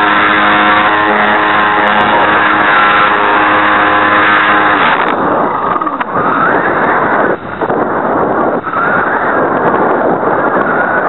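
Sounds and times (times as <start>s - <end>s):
electric motor and propeller: 0.0s - 11.0s
wind rushing: 0.0s - 11.0s.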